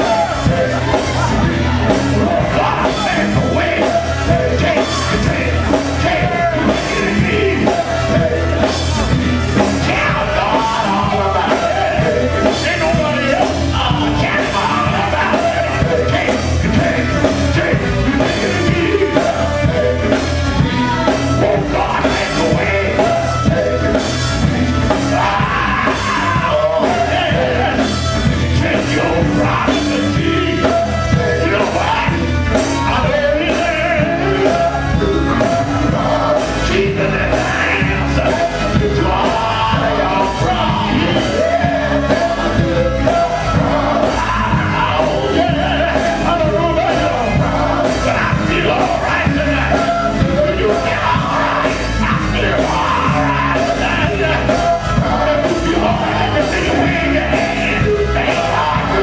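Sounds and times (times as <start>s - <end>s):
bass guitar: 0.0s - 59.0s
drums: 0.0s - 59.0s
electric guitar: 0.0s - 59.0s
person singing into microphone: 0.0s - 59.0s.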